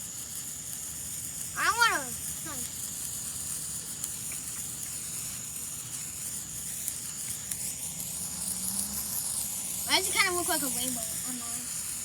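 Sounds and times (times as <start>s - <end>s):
sparklers fizzing: 0.0s - 12.0s
faint crackles: 0.2s - 12.0s.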